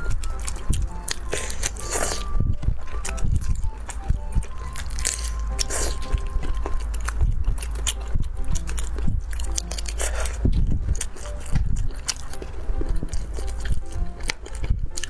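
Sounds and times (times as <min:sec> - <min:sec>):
shrimp shell crackling: 0:00.0 - 0:15.0.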